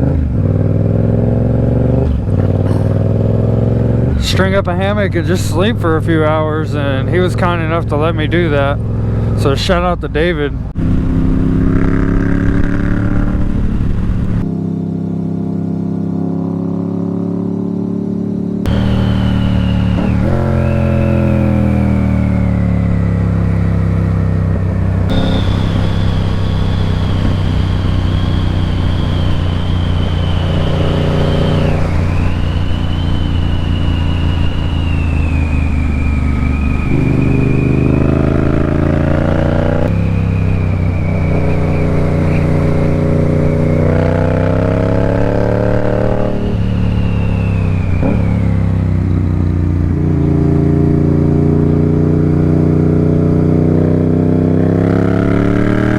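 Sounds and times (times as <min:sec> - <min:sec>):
motorcycle engine shifting gears: 0:00.0 - 0:04.6, 0:10.6 - 0:14.7, 0:18.6 - 0:55.9
road noise: 0:00.0 - 0:55.9.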